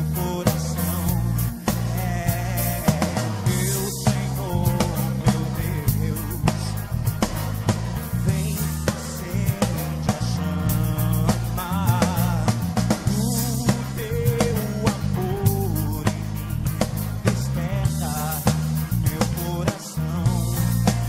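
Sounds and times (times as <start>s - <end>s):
man singing into microphone: 0.0s - 6.9s, 8.1s - 16.6s, 17.2s - 21.0s
band with drum kit: 0.0s - 21.0s.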